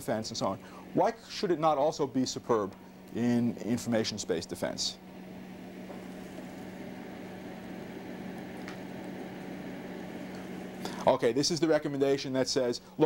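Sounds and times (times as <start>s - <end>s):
low even hum: 0.0s - 12.1s.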